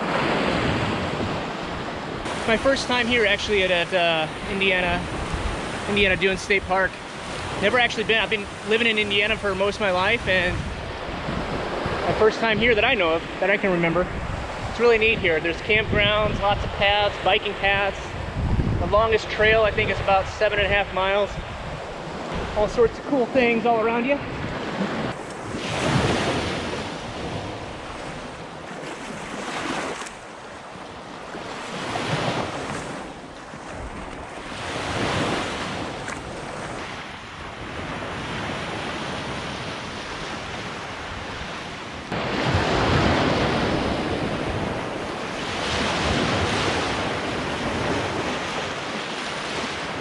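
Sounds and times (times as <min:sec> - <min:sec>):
waves breaking on sandy beach: 0:00.0 - 0:50.0
wind buffeting microphone: 0:03.4 - 0:50.0.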